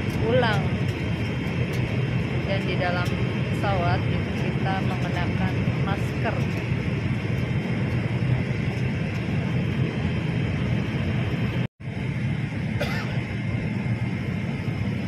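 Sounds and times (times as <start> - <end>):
airflow noise: 0.0 - 15.0
airliner cabin engine rumble: 0.0 - 15.0.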